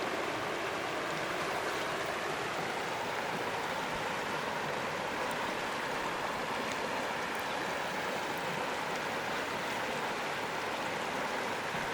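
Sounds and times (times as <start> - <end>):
creek water rushing: 0.0 - 11.9.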